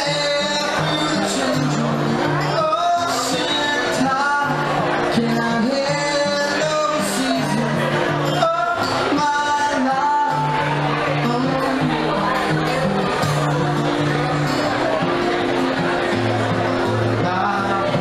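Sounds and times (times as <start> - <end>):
man singing: 0.0 - 15.0, 15.6 - 18.0
strummed acoustic guitar: 0.0 - 18.0.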